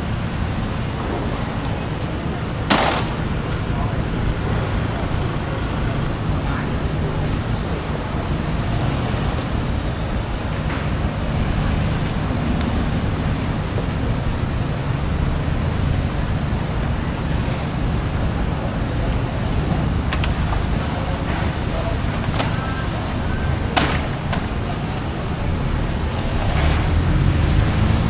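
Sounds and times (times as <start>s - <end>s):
road traffic din: 0.0s - 28.0s.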